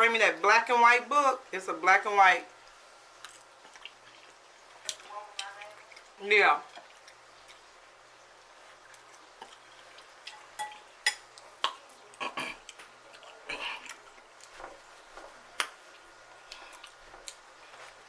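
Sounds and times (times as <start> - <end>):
chewing: 3.2 - 18.0.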